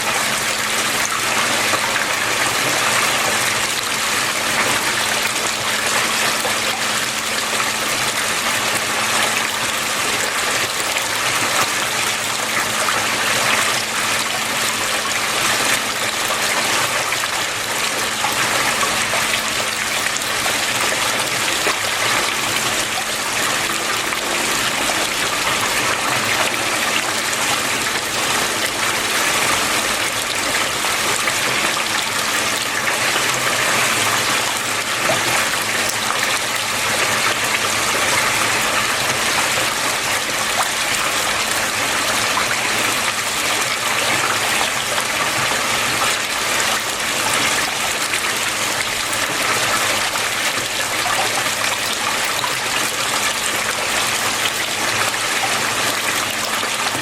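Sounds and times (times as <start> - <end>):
water flowing: 0.0 - 57.0.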